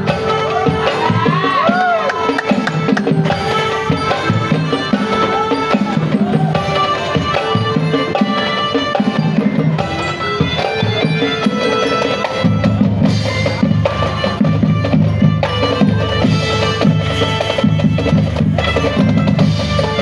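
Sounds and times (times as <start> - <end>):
drum strikes: 0.0 - 20.0
marching band playing: 0.0 - 20.0.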